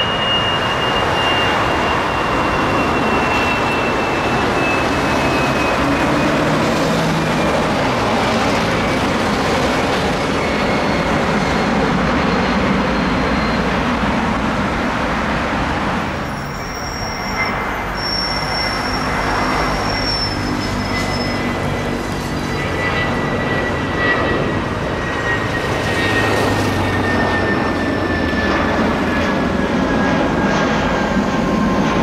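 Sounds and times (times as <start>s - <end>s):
jet engine whine: 0.0s - 32.0s
jet engines rushing: 0.0s - 32.0s.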